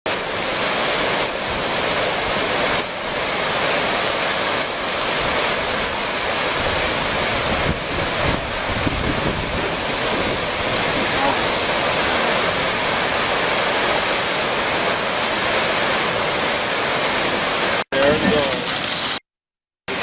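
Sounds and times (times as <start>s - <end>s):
wind buffeting microphone: 0.1s - 17.4s
river rushing: 0.1s - 19.2s.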